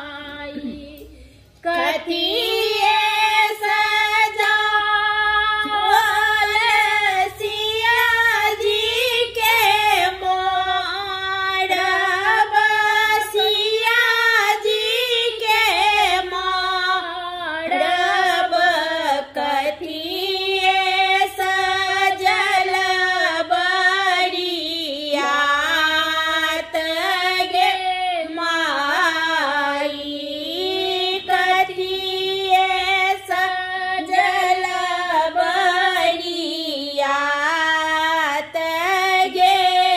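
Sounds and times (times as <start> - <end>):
two women singing unaccompanied: 0.0 - 39.9.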